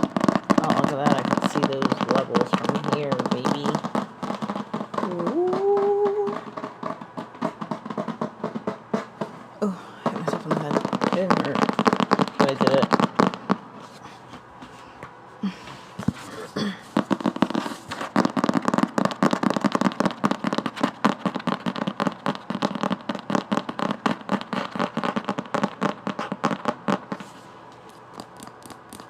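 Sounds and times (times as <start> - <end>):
fingernails tapping on a book: 0.0 - 13.7, 16.0 - 29.0.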